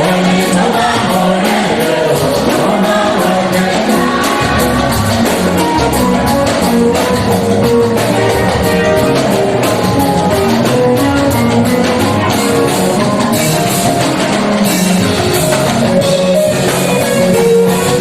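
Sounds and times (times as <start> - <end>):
bass: 0.0 - 18.0
choir singing gospel: 0.0 - 18.0
live band accompaniment: 0.0 - 18.0
percussion beat: 0.0 - 18.0.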